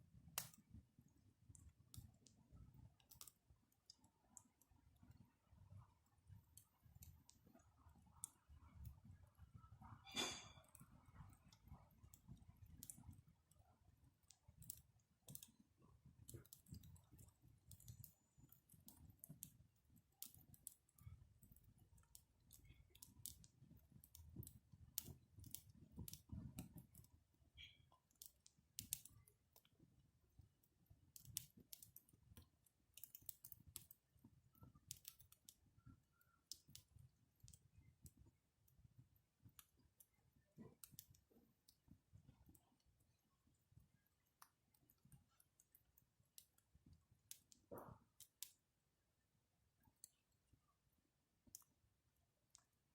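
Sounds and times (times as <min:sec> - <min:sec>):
campfire crackling: 0:00.1 - 0:09.9, 0:10.6 - 0:48.6.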